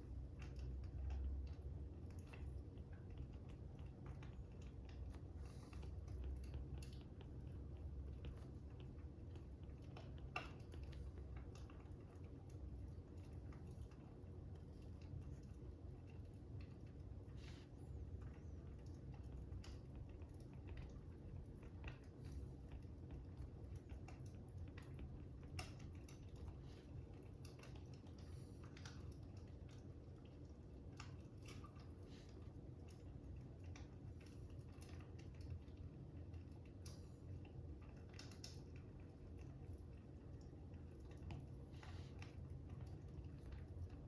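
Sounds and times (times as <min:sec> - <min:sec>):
faint wood fire crackling: 0:00.0 - 0:44.0.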